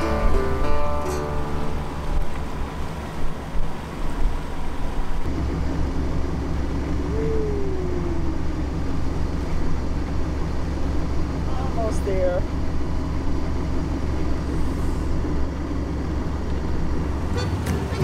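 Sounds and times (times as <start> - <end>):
wind and water rushing: 0.0 - 18.0.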